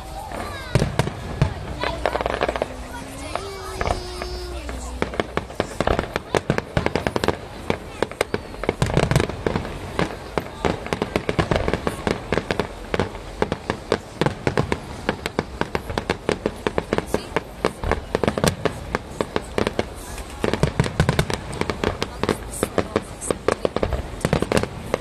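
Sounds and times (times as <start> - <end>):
fireworks bangs and crackles: 0.0 - 25.0
loud firework booms: 0.1 - 25.0.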